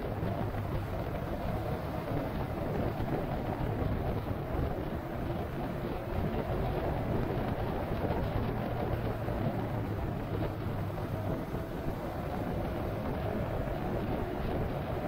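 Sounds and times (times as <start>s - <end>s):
vehicle running noise: 0.0s - 15.0s
wind rushing over microphone: 0.0s - 15.0s.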